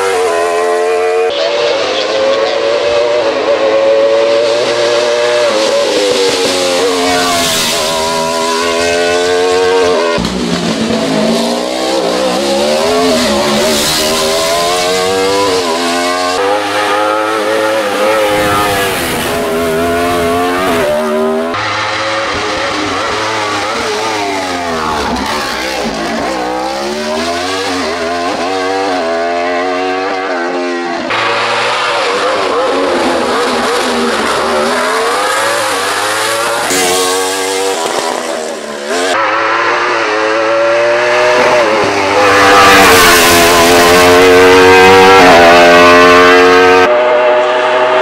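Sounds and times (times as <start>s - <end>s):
race car engine revving: 0.0s - 48.0s.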